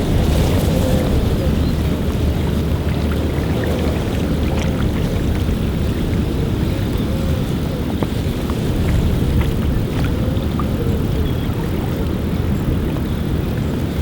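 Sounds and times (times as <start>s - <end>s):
small waves lapping: 0.0s - 14.0s
wind blowing across microphone: 0.0s - 14.0s.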